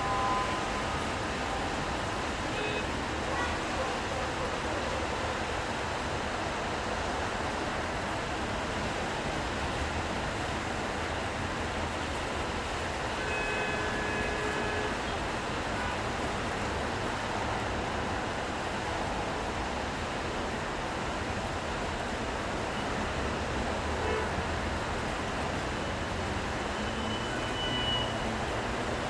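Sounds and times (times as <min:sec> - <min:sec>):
rain hiss: 0:00.0 - 0:29.0
traffic on wet road: 0:00.0 - 0:29.0.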